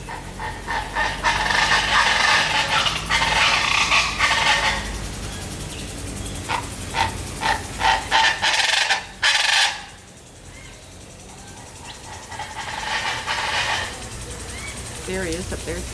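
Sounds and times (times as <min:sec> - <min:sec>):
birds calling loudly: 0:00.0 - 0:15.9.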